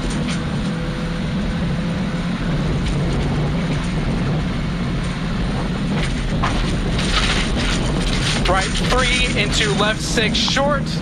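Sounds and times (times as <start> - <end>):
car engine under load: 0.0 - 11.0
tyre and road noise: 0.0 - 11.0.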